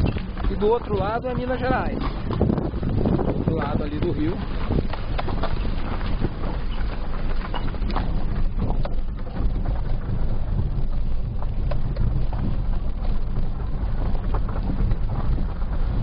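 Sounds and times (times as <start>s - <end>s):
engine and tyre rumble: 0.0s - 16.0s
knocks and rattles from bumps: 0.0s - 16.0s.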